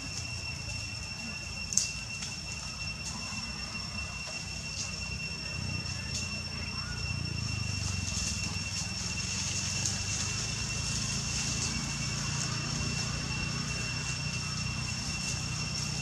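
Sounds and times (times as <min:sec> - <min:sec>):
continuous low rumble: 0:00.0 - 0:16.0
high-pitched whine: 0:00.0 - 0:16.0.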